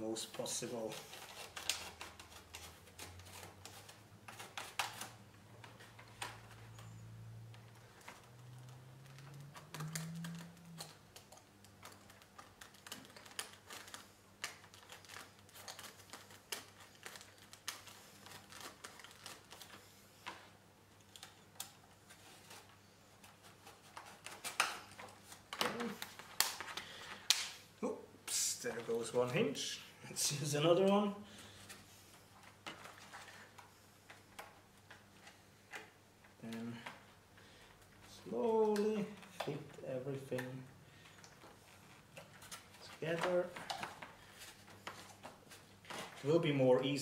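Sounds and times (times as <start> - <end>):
faint clicks and rustles: 0.2 - 27.6, 30.8 - 46.6.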